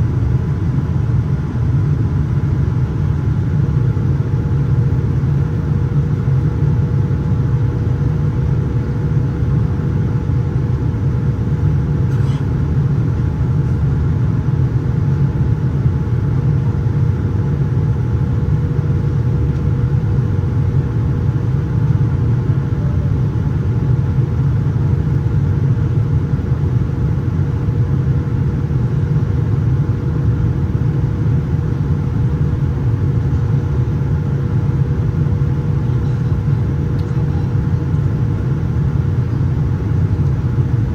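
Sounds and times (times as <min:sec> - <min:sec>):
airplane cabin rumble: 0:00.0 - 0:40.9
faint steady hum: 0:00.0 - 0:40.9.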